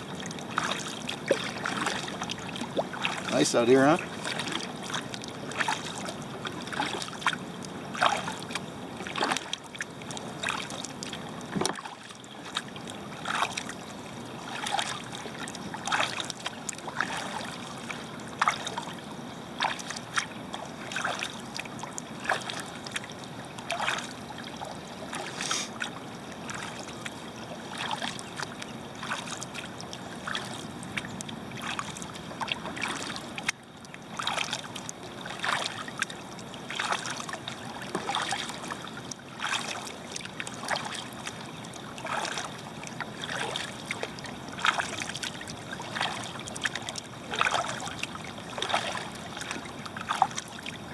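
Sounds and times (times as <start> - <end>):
water dripping from paddle: 0.0 - 18.9, 19.6 - 25.9, 26.5 - 50.8
paddle splashing in water: 0.0 - 50.9.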